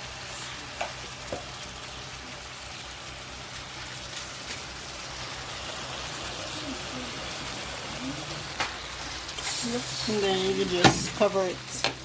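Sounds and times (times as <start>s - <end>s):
water boiling in a pot: 0.0s - 12.0s.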